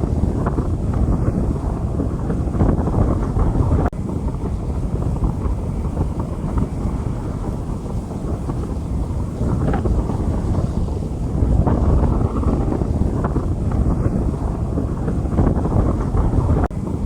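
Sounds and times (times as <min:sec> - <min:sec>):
rain falling on street: 0:00.0 - 0:17.0
wind buffeting microphone: 0:00.0 - 0:17.0.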